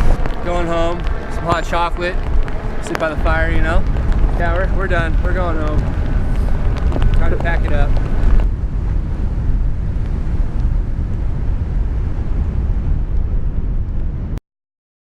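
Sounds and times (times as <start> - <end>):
storm wind buffeting microphone: 0.0 - 14.4.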